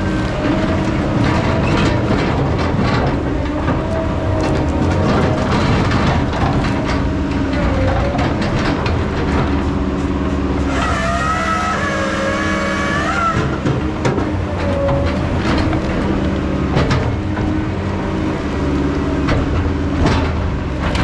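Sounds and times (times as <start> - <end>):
diesel engine running: 0.0 - 21.0
metal knocks and clanks: 0.4 - 11.2, 13.0 - 17.8, 19.2 - 21.0.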